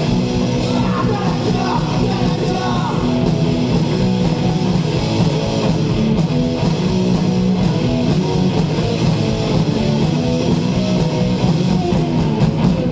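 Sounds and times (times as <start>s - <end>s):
drums: 0.0s - 12.9s
electric guitars strumming: 0.0s - 12.9s.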